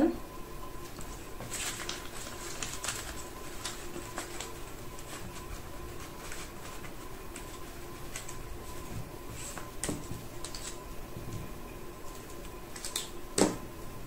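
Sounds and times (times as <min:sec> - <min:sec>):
paper and plastic rustling: 0:00.8 - 0:13.6.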